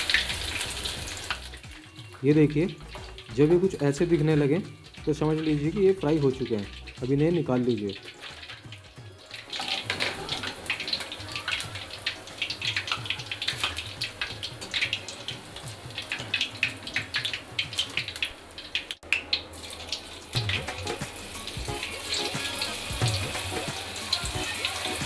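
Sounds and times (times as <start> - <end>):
food deep-frying in oil: 0.0 - 25.0.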